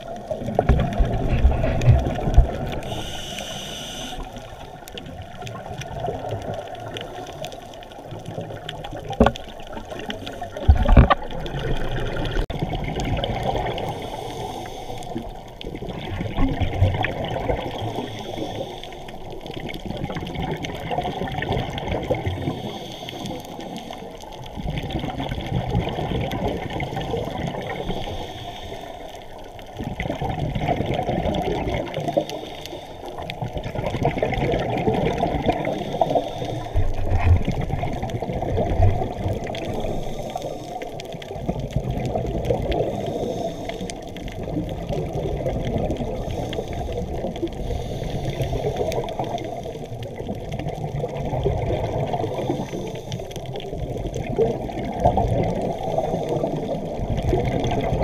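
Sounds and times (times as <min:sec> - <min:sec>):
scuba exhaust bubbles gurgling underwater: 0:00.0 - 0:58.0.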